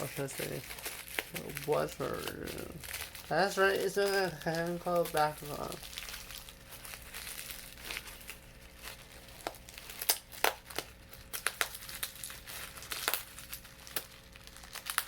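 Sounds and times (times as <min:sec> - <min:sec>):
toy packaging crinkling: 0:00.0 - 0:15.0.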